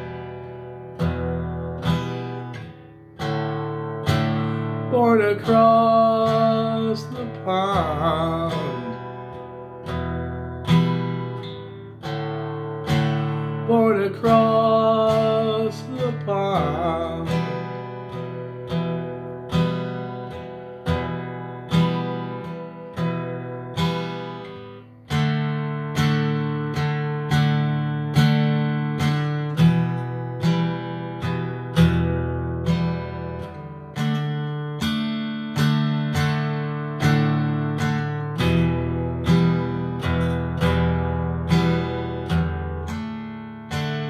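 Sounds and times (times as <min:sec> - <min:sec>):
acoustic guitar strummed: 0:00.0 - 0:44.0.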